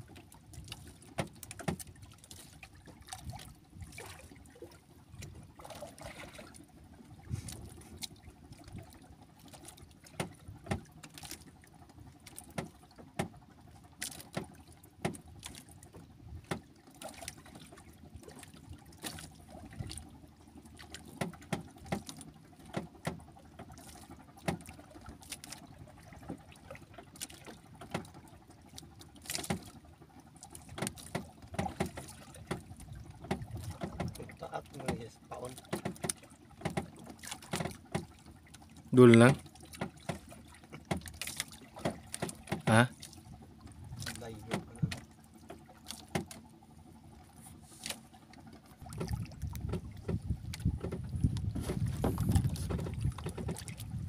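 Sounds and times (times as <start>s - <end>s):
water lapping against a hull: 0.0s - 54.0s.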